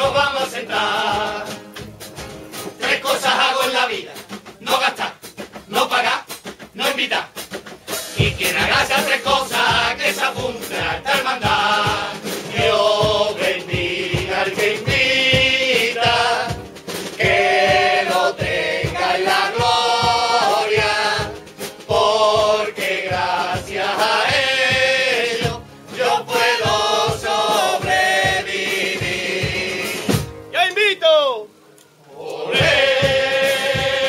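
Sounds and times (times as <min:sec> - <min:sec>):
men singing together: 0:00.0 - 0:01.8, 0:02.7 - 0:30.3, 0:32.1 - 0:34.0
strummed acoustic guitars: 0:00.0 - 0:30.5, 0:32.5 - 0:34.0
steady beat: 0:00.0 - 0:31.4, 0:32.5 - 0:34.0.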